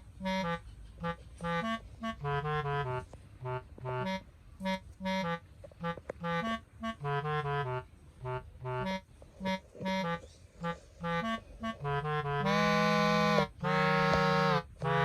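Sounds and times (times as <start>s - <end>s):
bouncy melody of short notes: 0.0s - 15.0s.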